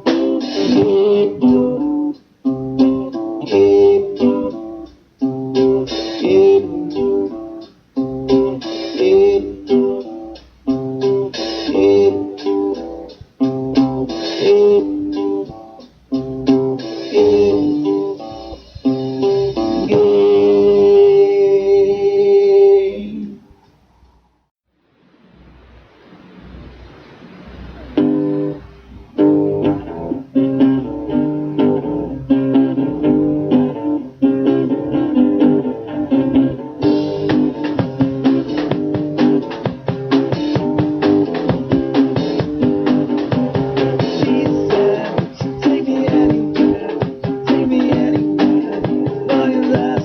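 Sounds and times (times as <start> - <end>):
strummed guitar chords: 0.0 - 23.3, 25.5 - 50.0.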